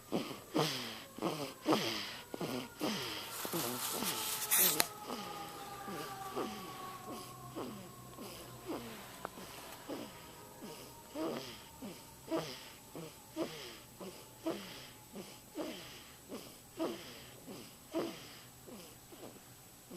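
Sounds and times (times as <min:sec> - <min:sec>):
snoring with whistling wheeze: 0:00.0 - 0:19.9.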